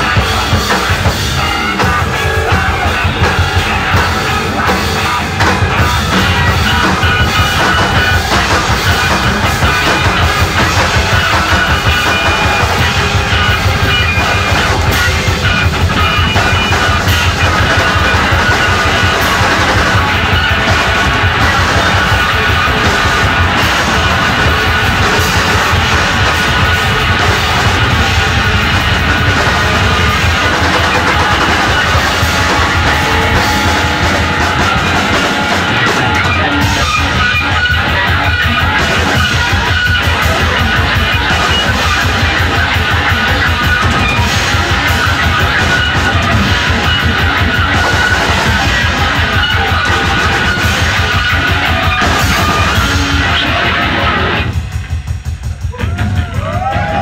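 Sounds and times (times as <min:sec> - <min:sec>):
noise rock band playing: 0:00.0 - 0:57.0.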